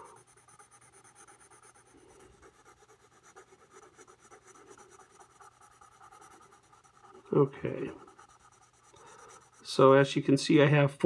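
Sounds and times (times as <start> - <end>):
pencil scratching on paper: 0.0 - 10.2.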